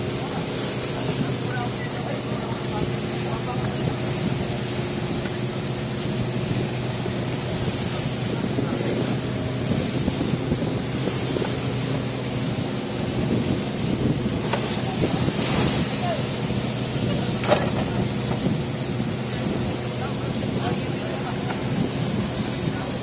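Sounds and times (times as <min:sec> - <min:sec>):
boat engine running: 0:00.0 - 0:23.0
wind on microphone: 0:00.0 - 0:23.0.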